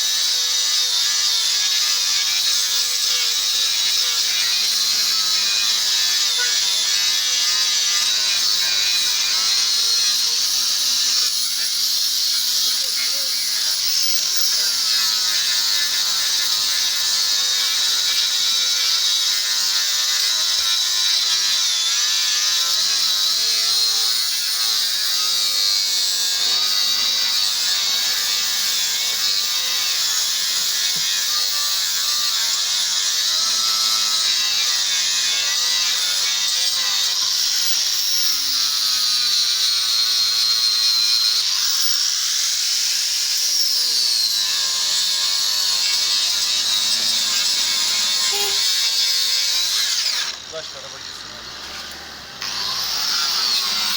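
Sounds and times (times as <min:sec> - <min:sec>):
power sander whining: 0:00.0 - 0:53.9.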